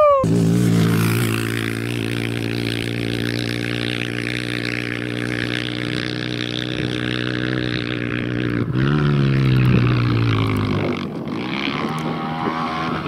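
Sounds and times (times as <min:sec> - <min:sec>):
pit bike engine running: 0:00.2 - 0:13.0.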